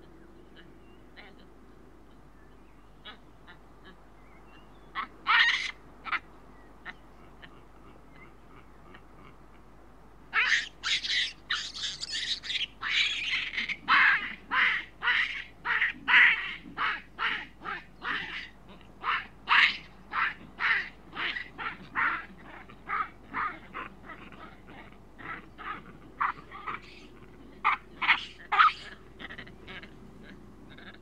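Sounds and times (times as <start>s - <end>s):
baboons screaming: 4.9s - 9.4s, 10.3s - 31.0s.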